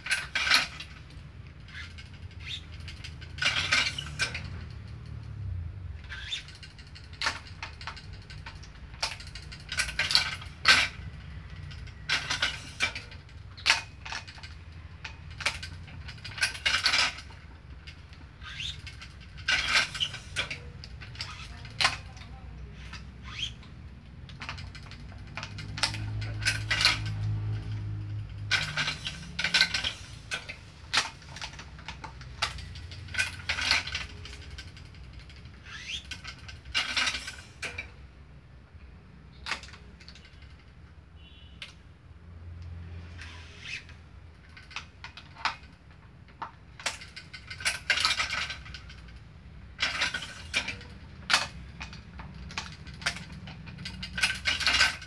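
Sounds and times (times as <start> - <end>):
stringing machine metallic clicks: 0.0 - 38.2, 39.3 - 55.0.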